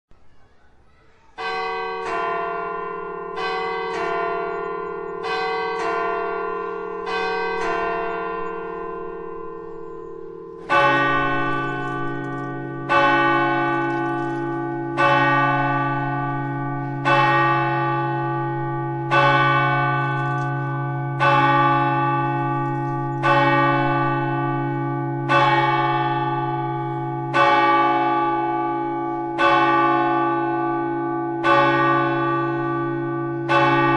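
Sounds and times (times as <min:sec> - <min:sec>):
deep church bell tolling: 0:01.4 - 0:33.9
lighter church bell ringing: 0:01.4 - 0:33.9.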